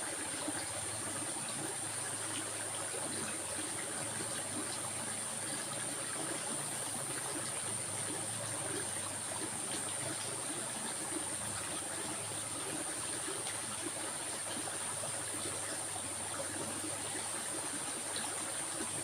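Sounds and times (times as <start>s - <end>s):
stream trickling: 0.0s - 19.0s.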